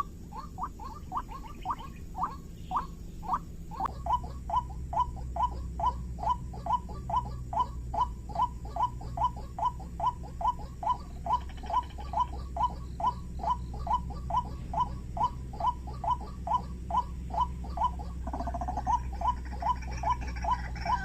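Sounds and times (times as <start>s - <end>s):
steady low hum: 0.0s - 21.0s
waterhen calling: 0.0s - 21.0s.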